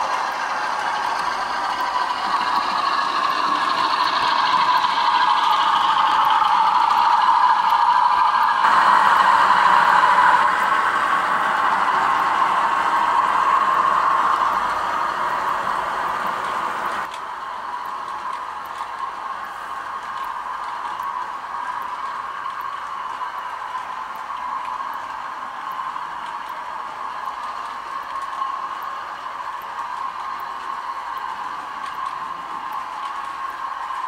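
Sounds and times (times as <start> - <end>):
model train wagons rattling on track: 0.0 - 34.0.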